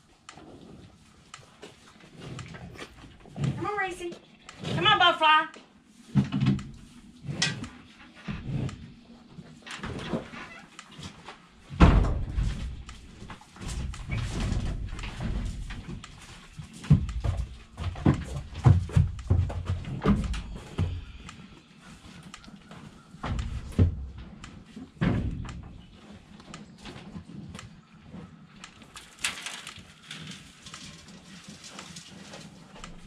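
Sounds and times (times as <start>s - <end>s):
cow hooves on wooden ramp: 6.1s - 33.0s.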